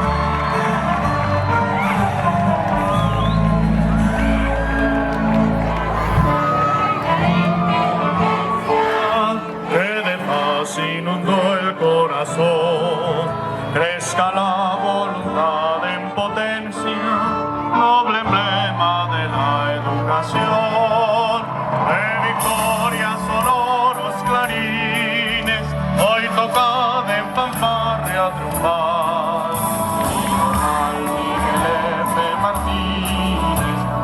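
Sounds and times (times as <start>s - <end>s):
instrumental accompaniment: 0.0s - 34.0s
man singing with vibrato: 2.8s - 34.0s.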